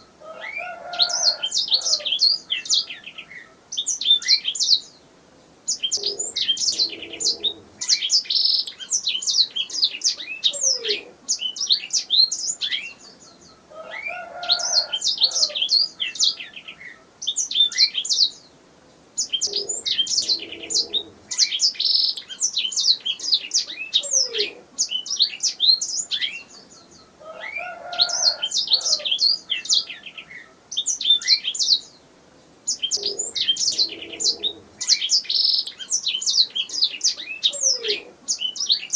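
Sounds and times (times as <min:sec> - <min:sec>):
canary singing: 0:00.0 - 0:05.0, 0:05.7 - 0:18.4, 0:19.2 - 0:32.0, 0:32.6 - 0:38.9.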